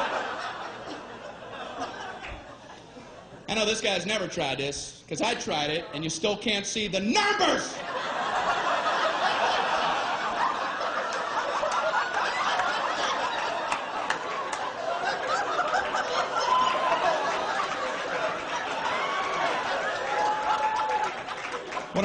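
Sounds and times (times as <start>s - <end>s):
large audience laughing: 0.0s - 3.5s, 7.6s - 22.0s.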